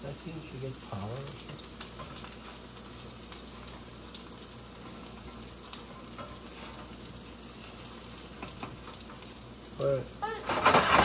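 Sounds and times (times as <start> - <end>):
faint crackles: 0.0 - 11.0
food sizzling in oil: 0.0 - 11.0.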